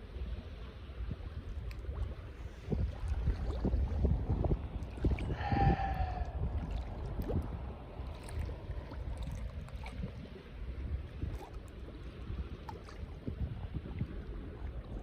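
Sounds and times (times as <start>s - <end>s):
sea water lapping: 0.0s - 15.0s
wind buffeting microphone: 0.0s - 15.0s.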